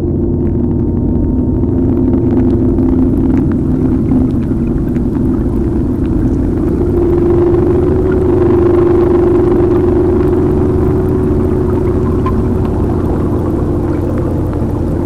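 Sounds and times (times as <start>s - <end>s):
faint crackles: 0.0s - 15.0s
low steady rumble: 0.0s - 15.0s
sustained held tones: 0.0s - 15.0s.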